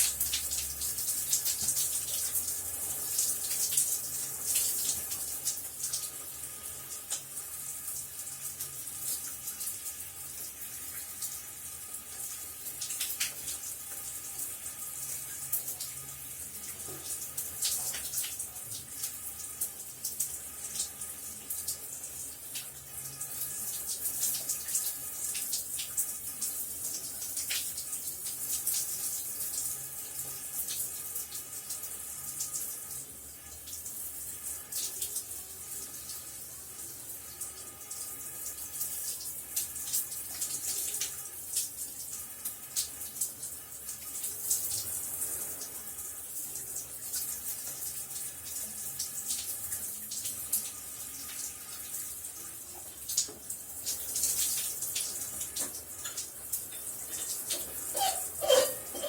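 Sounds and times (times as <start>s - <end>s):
shower water spraying and splashing: 0.0s - 59.0s.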